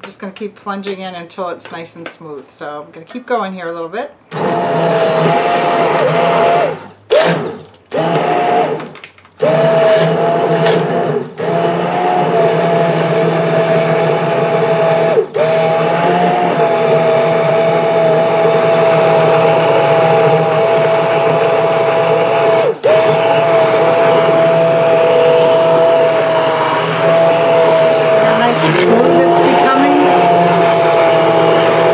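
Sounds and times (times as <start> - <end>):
immersion blender motor whine: 4.2 - 31.9.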